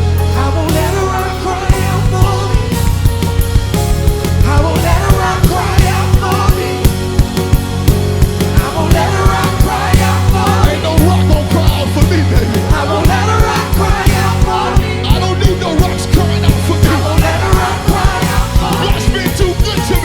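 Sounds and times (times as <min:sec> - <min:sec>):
melodic voices: 0:00.0 - 0:20.0
sustained bass notes: 0:00.0 - 0:20.0
drum beat: 0:00.7 - 0:20.0.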